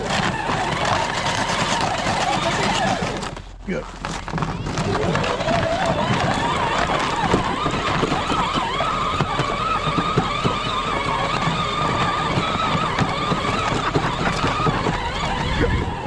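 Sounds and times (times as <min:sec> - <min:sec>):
electric toy motor whining: 0:00.0 - 0:03.4, 0:04.3 - 0:16.0.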